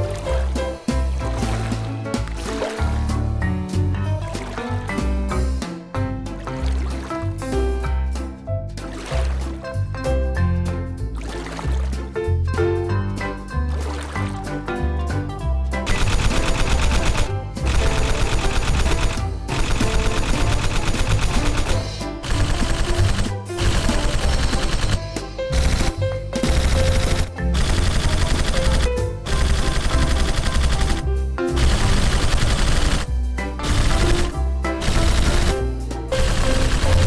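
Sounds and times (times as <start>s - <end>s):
music with rapid rattling beat: 0.0s - 37.0s.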